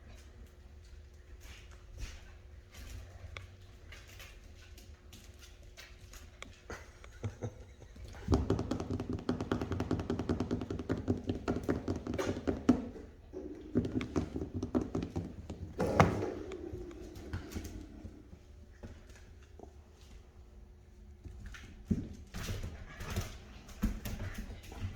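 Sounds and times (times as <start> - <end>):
puppies tapping and scuffling: 0.0 - 24.9.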